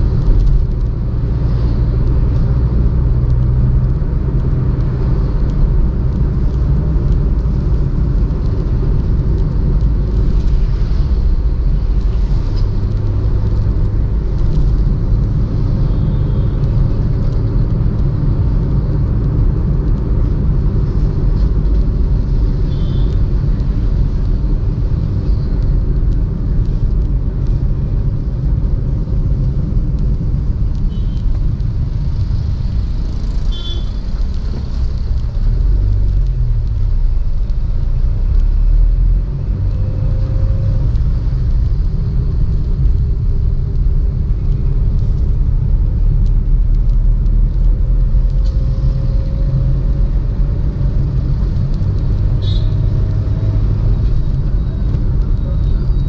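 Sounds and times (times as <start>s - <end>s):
car engine hum: 0.0s - 56.0s
road rumble: 0.0s - 56.0s.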